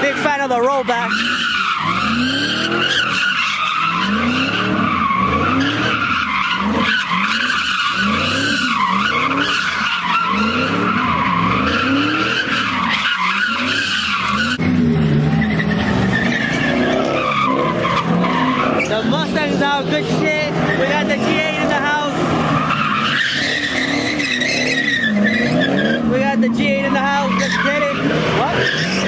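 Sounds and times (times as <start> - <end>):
car engine revving: 0.0 - 29.0
tyres squealing: 0.0 - 29.0.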